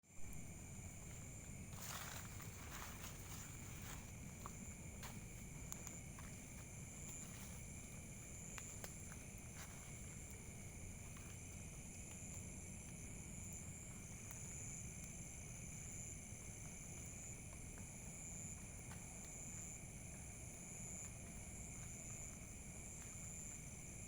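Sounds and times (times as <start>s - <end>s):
insects chirring: 0.1s - 24.0s.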